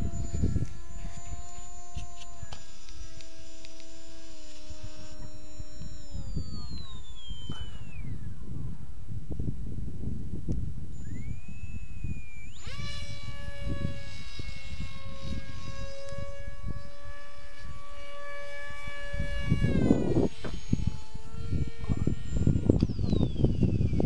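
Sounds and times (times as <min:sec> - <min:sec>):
wind buffeting microphone: 0:00.0 - 0:03.4, 0:04.6 - 0:24.0
electric motor and propeller whining: 0:00.0 - 0:24.0.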